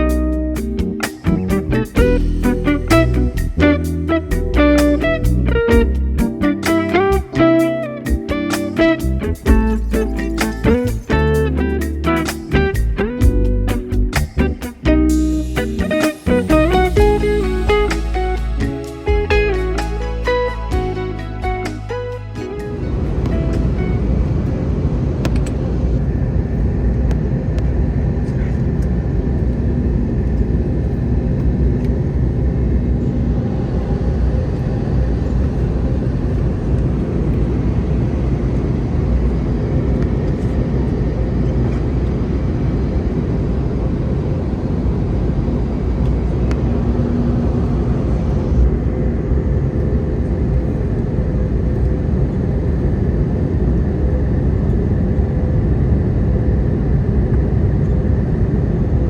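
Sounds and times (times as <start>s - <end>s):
airplane cabin rumble: 0.0s - 59.0s
faint steady hum: 0.0s - 59.0s.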